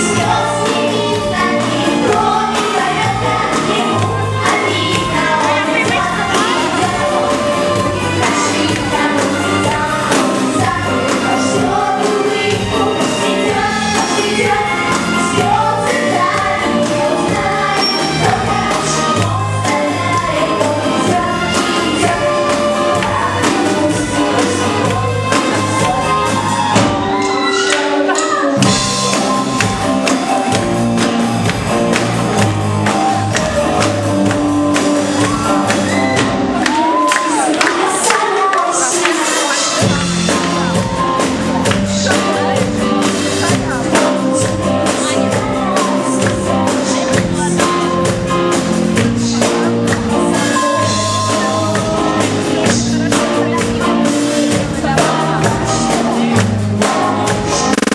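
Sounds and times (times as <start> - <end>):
drum beat: 0.0 - 27.5, 28.6 - 38.2, 39.1 - 57.9
bass: 0.0 - 57.9
live band playing: 0.0 - 57.9
person singing: 0.0 - 57.9.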